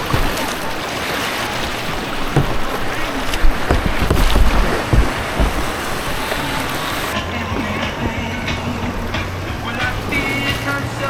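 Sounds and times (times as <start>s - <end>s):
rushing white water: 0.0s - 11.0s
wind buffeting on microphone: 0.0s - 11.0s.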